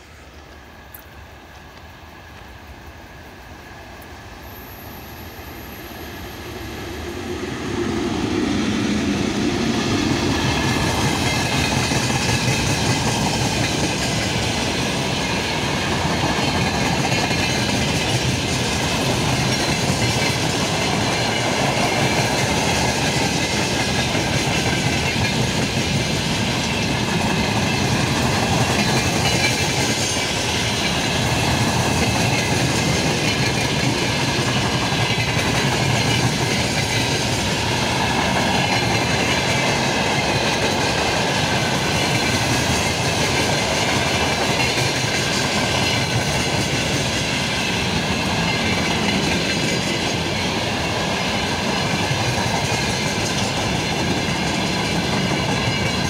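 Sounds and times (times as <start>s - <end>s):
electric locomotive passing: 0.0s - 56.0s
train wheels clickety-clack: 4.4s - 56.0s.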